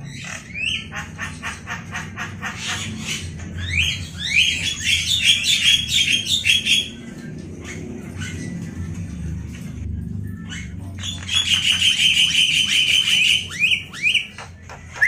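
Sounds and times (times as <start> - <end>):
caged birds calling: 0.0 - 15.0.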